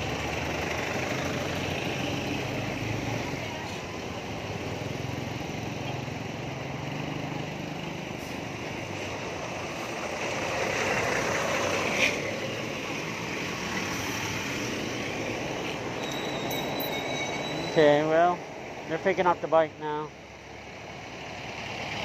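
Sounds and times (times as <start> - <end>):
bus passing: 0.0 - 22.0
traffic engine hum: 0.0 - 22.0.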